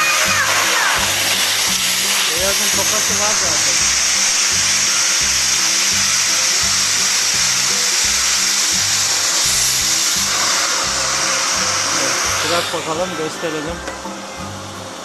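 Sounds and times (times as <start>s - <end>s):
background music with steady beat: 0.0s - 15.0s
vacuum cleaner hissing: 0.0s - 15.0s.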